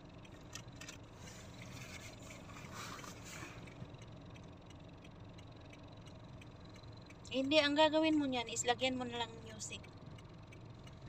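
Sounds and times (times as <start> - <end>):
car idling hum: 0.0 - 11.0.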